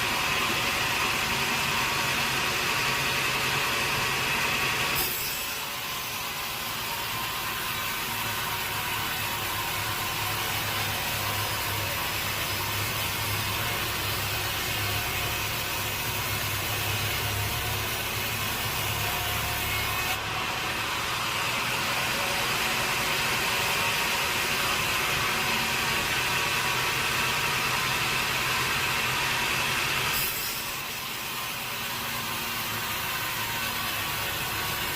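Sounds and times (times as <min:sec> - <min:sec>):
low machine drone: 0:00.0 - 0:34.9
saw blade cutting wood: 0:00.0 - 0:34.9.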